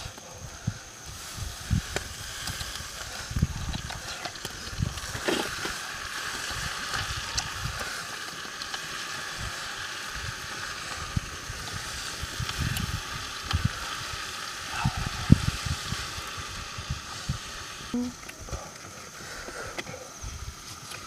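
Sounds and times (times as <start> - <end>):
fire crackling: 0.0 - 21.0
greens sizzling in a wok: 0.0 - 21.0.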